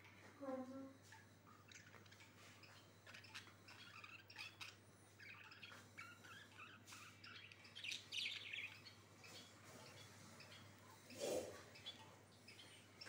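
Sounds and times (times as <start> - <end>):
budgerigars chirping and chattering: 1.1 - 13.0.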